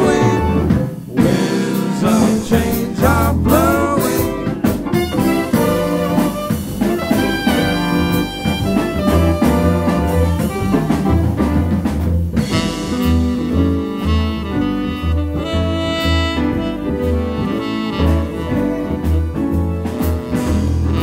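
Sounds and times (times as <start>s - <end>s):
band music with lead melody: 0.0s - 21.0s.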